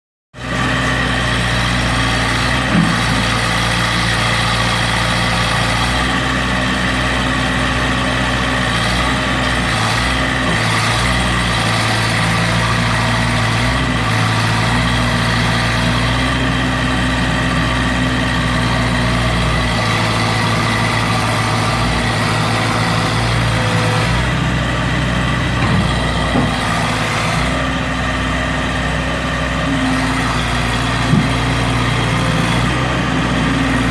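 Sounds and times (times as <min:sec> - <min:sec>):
heavy vehicle engine idling: 0:00.4 - 0:33.9.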